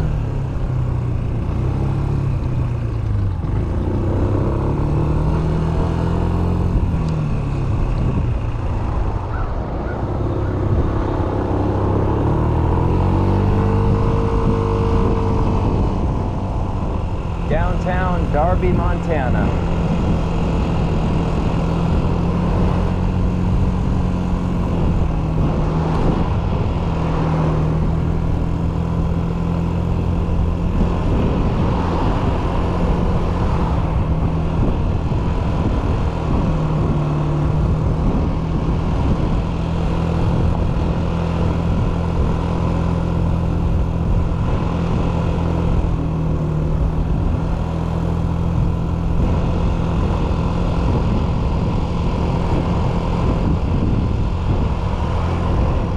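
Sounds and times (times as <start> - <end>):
scooter engine cruising: 0.0 - 55.9
wind and road rush: 0.0 - 55.9.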